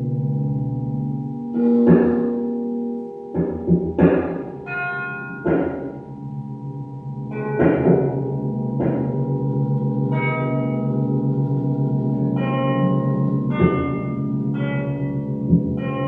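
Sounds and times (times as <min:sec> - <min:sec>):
low pulsing drone: 0:00.0 - 0:16.0
struck gong-like zither tones: 0:00.0 - 0:16.0.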